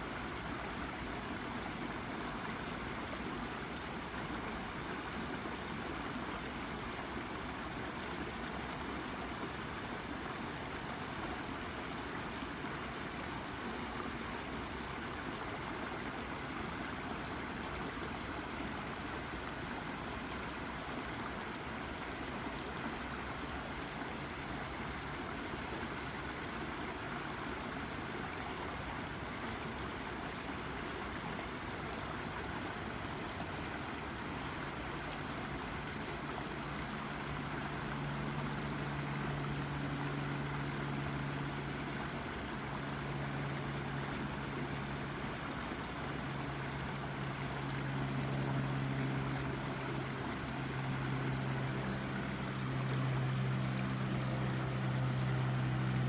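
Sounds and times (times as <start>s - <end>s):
brook water babbling: 0.0s - 56.0s.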